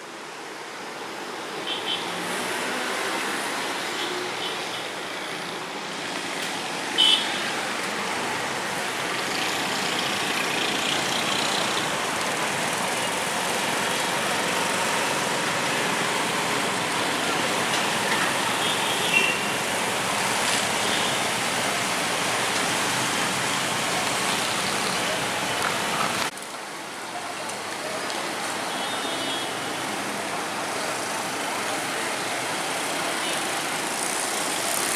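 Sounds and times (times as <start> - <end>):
traffic on wet streets: 0.0 - 34.9
rain hiss: 5.1 - 34.9.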